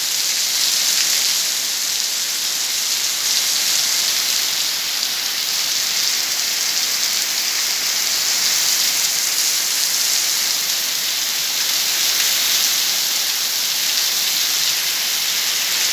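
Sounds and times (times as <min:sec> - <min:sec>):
heavy rain on paving: 0:00.0 - 0:15.9.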